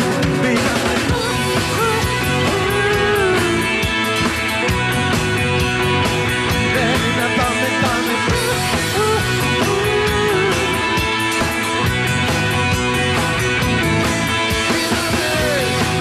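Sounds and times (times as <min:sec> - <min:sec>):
bass guitar: 0:00.0 - 0:16.0
drum beat: 0:00.0 - 0:16.0
electric guitar melody: 0:00.0 - 0:16.0.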